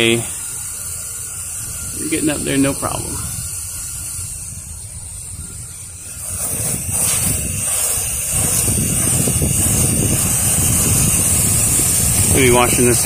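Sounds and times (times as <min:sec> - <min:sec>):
spray nozzle hissing: 0:00.0 - 0:13.0
wind rumble on microphone: 0:01.4 - 0:13.0.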